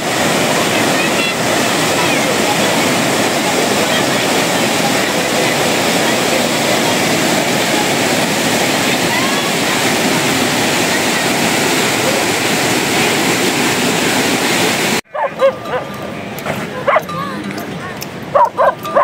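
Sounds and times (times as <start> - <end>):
fast-flowing water rushing: 0.0 - 19.0.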